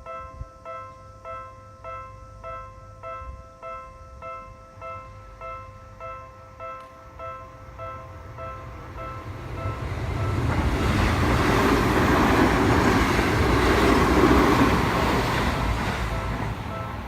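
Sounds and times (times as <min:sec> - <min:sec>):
crossing warning bell dinging: 0:00.0 - 0:17.0
train rumble and wheel noise: 0:00.0 - 0:17.0.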